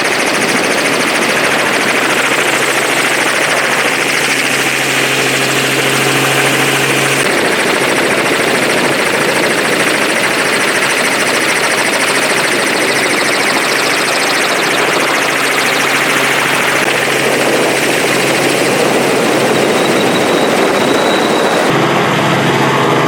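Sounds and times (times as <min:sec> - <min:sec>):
helicopter flying: 0:00.0 - 0:23.0.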